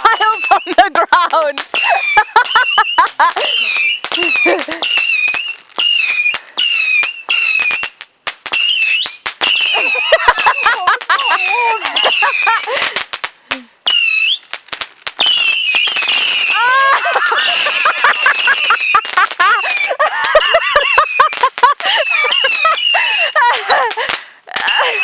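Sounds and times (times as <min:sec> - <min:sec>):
fireworks popping and crackling: 0:00.0 - 0:25.0
whistling firework shots: 0:00.0 - 0:25.0.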